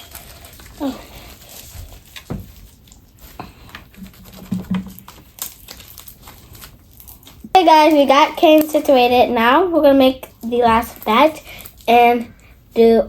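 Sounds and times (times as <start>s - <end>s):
slime squelching: 0.0s - 13.0s.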